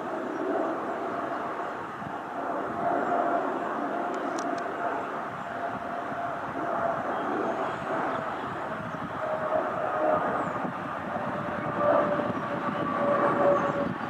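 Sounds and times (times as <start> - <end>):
jet engine rumble overhead: 0.0 - 14.0.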